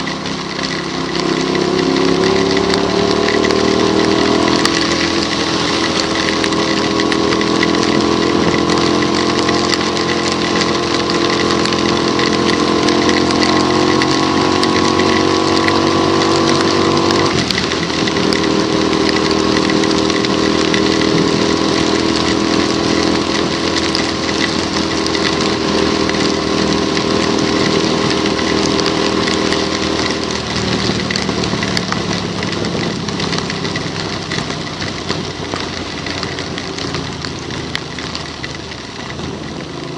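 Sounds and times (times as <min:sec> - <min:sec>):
hiss from wet road and rain: 0:00.0 - 0:39.9
motorcycle engine running: 0:00.0 - 0:39.9.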